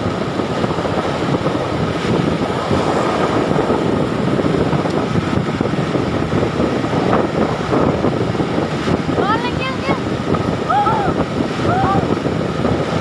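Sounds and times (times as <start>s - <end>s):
truck engine and road noise: 0.0s - 13.0s
wind buffeting microphone: 0.0s - 13.0s.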